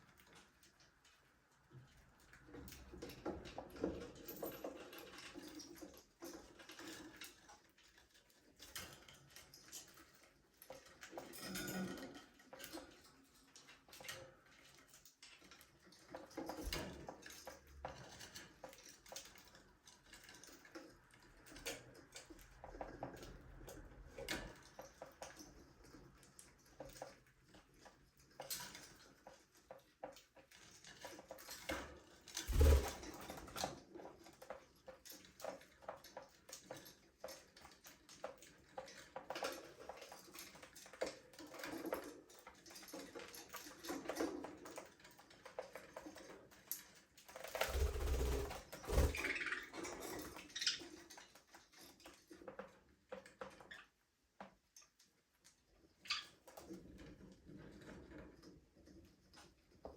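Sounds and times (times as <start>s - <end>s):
birds clicking and scratching in cage: 0.0s - 59.9s.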